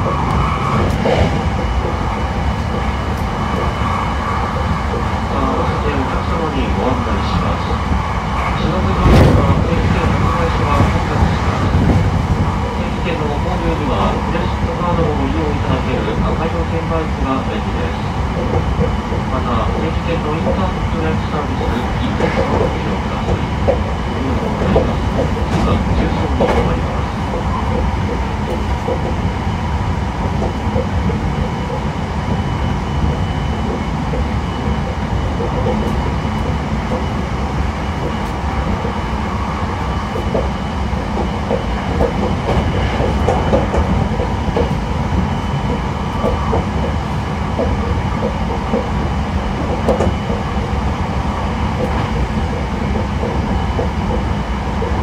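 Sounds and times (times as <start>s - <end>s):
rail clacks: 0.0s - 55.0s
train wheels rumbling on rail: 0.0s - 55.0s.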